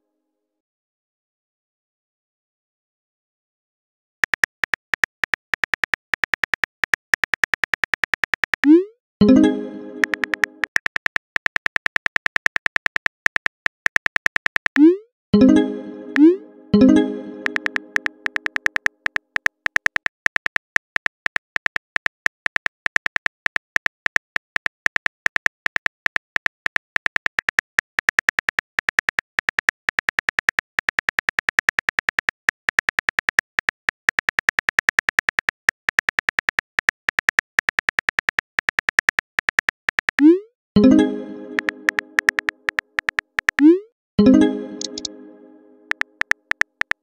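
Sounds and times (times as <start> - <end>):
phone keyboard typing clicks: 4.2 - 14.9, 16.1 - 45.2, 45.9 - 47.0.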